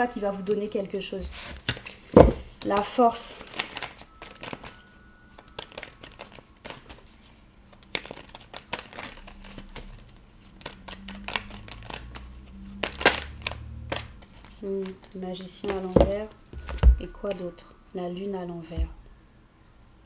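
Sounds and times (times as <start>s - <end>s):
cards shuffling: 1.4s - 17.4s.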